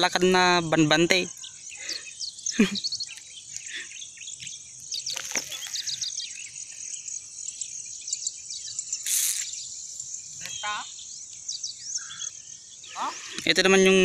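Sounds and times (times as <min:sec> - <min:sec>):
insects trilling: 0:00.0 - 0:14.0
small birds chirping: 0:00.0 - 0:14.0.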